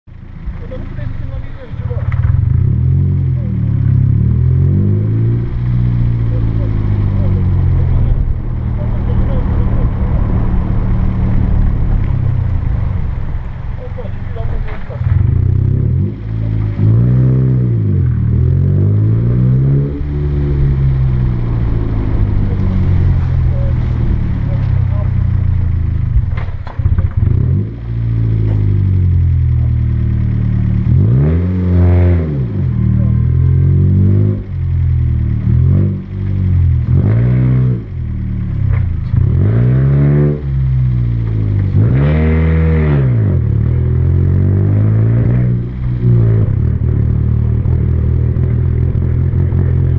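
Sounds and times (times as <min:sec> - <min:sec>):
car engine under load: 0:00.0 - 0:49.9.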